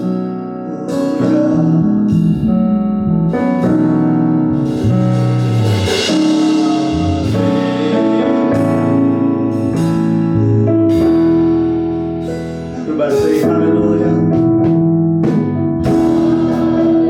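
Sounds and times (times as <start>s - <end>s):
keyboard playing slow chords: 0.0s - 17.0s.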